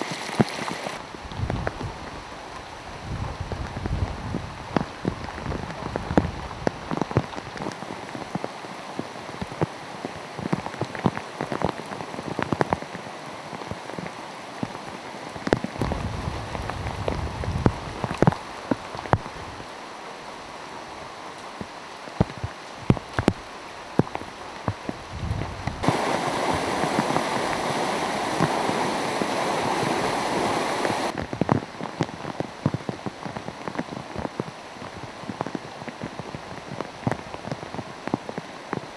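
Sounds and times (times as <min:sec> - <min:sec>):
heavy rain falling: 0:00.0 - 0:38.9
raindrops dripping: 0:00.0 - 0:38.9
rush of rain: 0:00.0 - 0:38.9.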